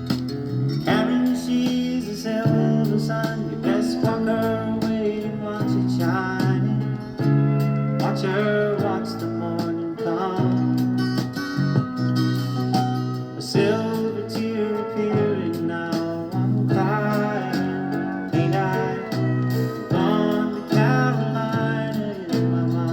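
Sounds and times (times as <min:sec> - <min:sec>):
guitar song from record player: 0:00.0 - 0:22.9.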